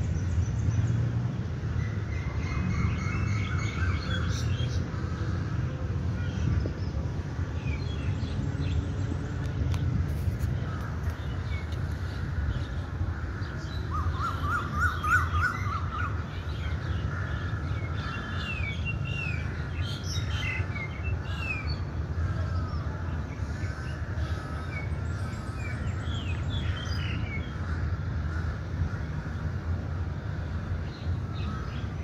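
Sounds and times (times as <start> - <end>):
birds chirping and calling: 1.8 - 7.0, 10.4 - 29.5, 30.4 - 32.0.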